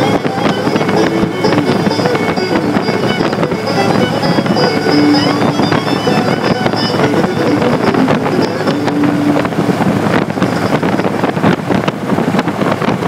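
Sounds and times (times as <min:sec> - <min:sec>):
motorcycle road noise: 0:00.0 - 0:13.0
wind rushing over microphone: 0:00.0 - 0:13.0.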